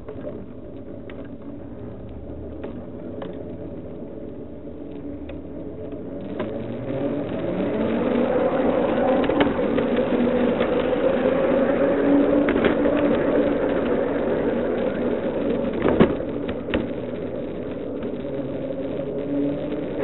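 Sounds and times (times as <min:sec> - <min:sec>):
wheels clicking over track gaps: 0:00.0 - 0:20.0
wheels rumbling on rail: 0:00.0 - 0:20.0.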